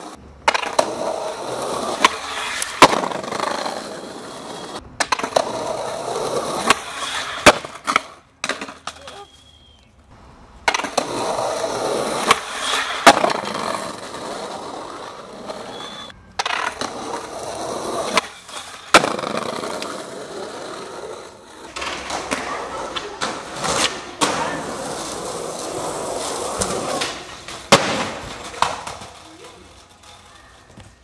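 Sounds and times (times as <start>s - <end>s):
skateboard clacking on ground: 0.0s - 9.4s, 10.6s - 31.0s
skateboard wheels rolling on pavement: 0.0s - 31.0s.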